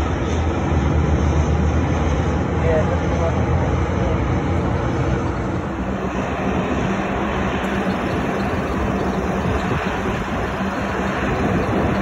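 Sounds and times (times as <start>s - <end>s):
airliner engine taxiing: 0.0s - 12.0s.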